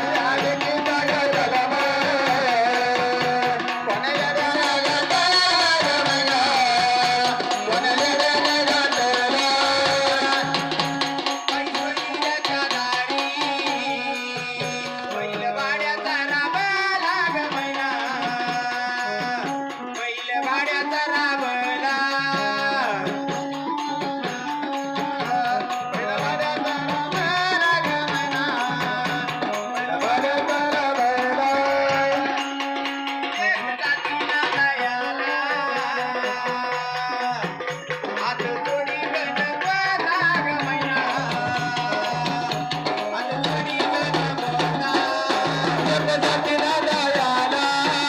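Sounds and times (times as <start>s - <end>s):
hand drums: 0.0s - 48.0s
keyboard: 0.0s - 48.0s
person singing: 0.0s - 48.0s.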